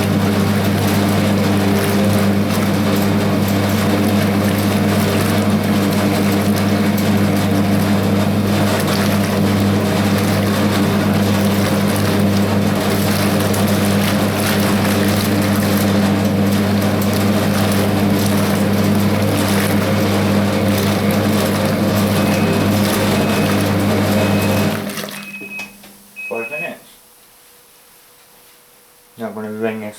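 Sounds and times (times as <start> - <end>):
water churning in tub: 0.0 - 25.6
washing machine motor hum: 0.0 - 27.2.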